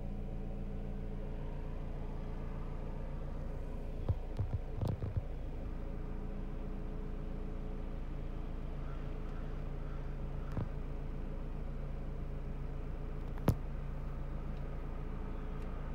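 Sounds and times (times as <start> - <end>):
low machine hum: 0.0 - 15.9.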